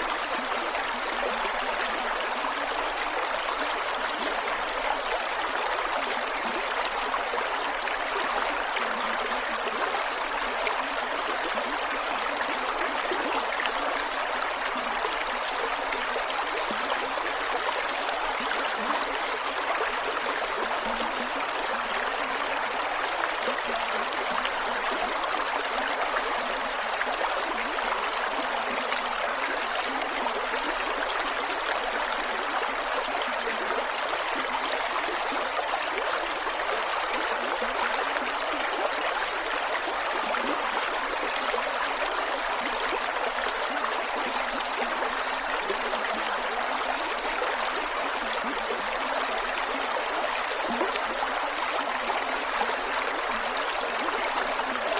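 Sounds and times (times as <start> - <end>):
creek water over rocks: 0.0 - 54.9.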